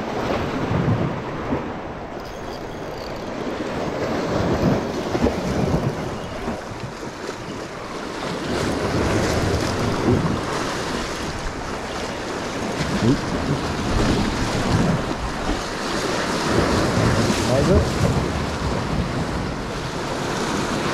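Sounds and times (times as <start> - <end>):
sea waves breaking on rocks: 0.0 - 20.9
wind buffeting microphone: 0.0 - 20.9.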